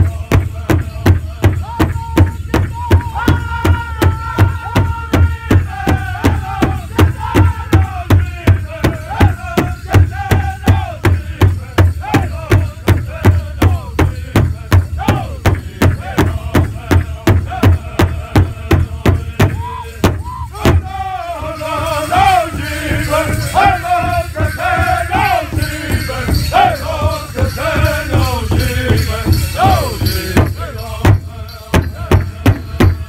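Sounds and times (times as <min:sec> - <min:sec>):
bass drum steady beat: 0:00.0 - 0:33.0
men singing high wavering voices: 0:00.0 - 0:33.0.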